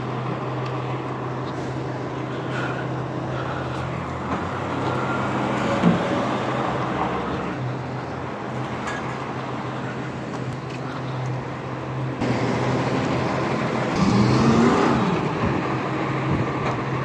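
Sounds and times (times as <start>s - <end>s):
garbage truck engine running: 0.0s - 17.0s.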